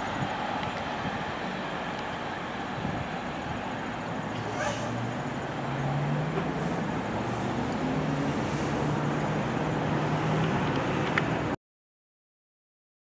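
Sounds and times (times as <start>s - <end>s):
low vehicle rumble: 0.0s - 11.6s.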